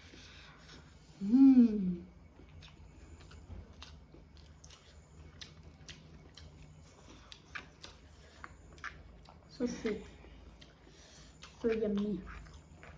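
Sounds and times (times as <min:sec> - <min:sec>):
person chewing food: 0:02.2 - 0:12.9.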